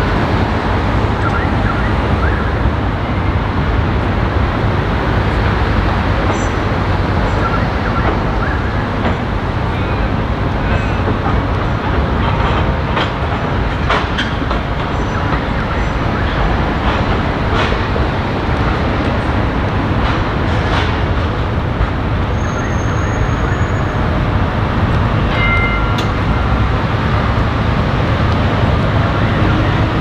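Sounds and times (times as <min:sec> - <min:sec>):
tram rumbling: 0:00.0 - 0:30.0
tram wheels knocking on rail joints: 0:03.5 - 0:30.0.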